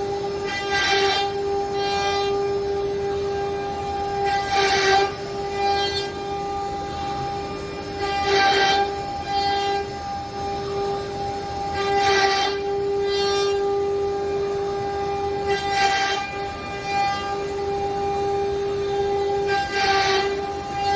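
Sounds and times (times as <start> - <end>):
cnc router spindle whine: 0.0 - 20.9
bit cutting through workpiece: 0.2 - 20.9.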